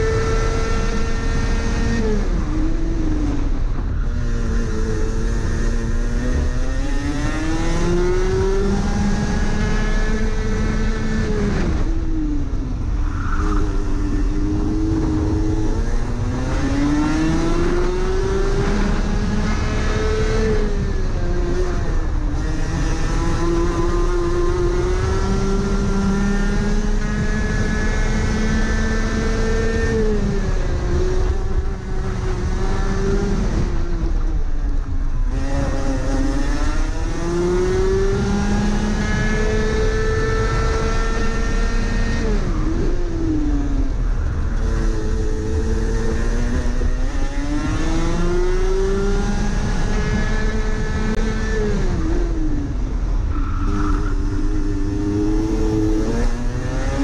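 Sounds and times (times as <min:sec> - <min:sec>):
kart engine racing: 0:00.0 - 0:57.0.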